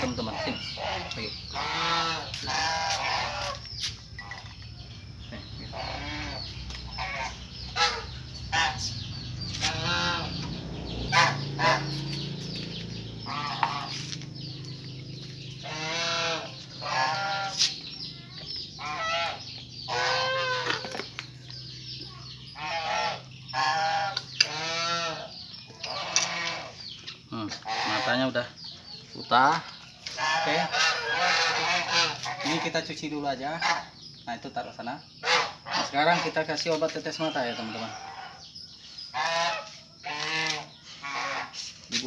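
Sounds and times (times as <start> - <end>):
farm animals calling: 0.0 - 42.0.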